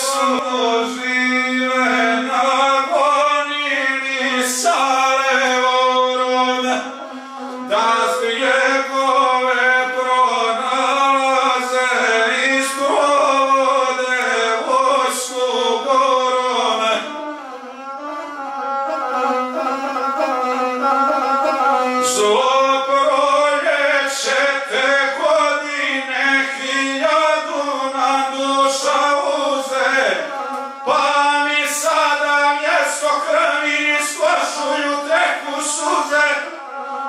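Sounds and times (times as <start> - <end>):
bowed fiddle: 0.0 - 37.0
man singing: 0.0 - 37.0.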